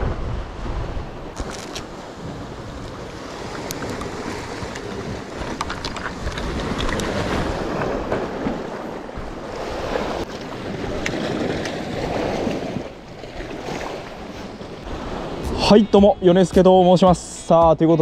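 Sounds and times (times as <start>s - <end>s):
waves washing against rocks: 0.0s - 15.6s
wind buffeting the microphone: 0.0s - 16.7s.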